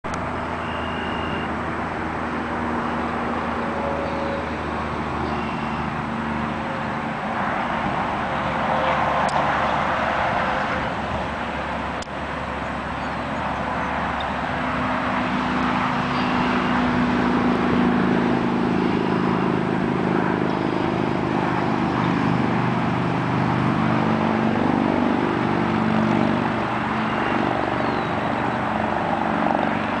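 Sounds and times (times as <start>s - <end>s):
road noise: 0.0s - 30.0s
vehicle engines running: 0.0s - 30.0s.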